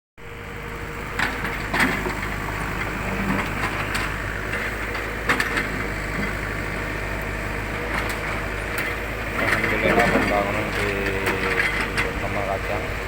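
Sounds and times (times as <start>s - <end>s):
machinery engine running: 0.2s - 13.0s.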